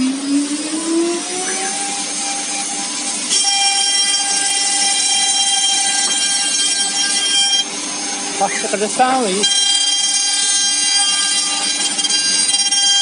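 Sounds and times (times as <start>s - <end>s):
spindle motor whine: 0.0s - 13.0s.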